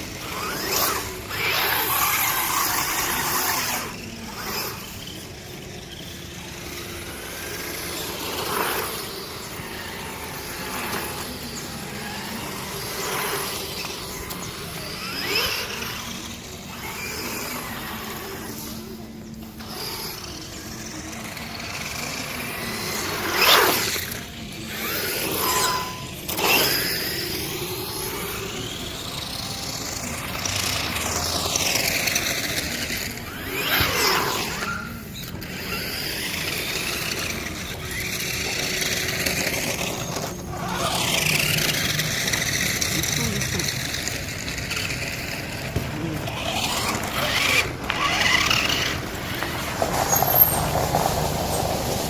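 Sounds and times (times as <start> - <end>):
electric motor whining: 0.0 - 52.0
tyre noise: 0.0 - 52.0.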